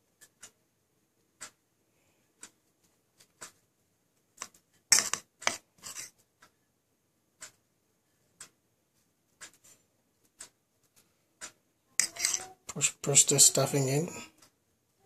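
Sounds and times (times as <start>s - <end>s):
clock ticking: 0.0s - 6.6s, 7.2s - 15.0s.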